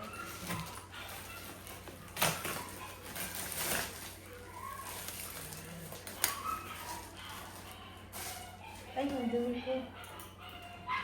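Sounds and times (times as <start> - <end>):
rustling of items being unpacked: 0.0 - 10.9.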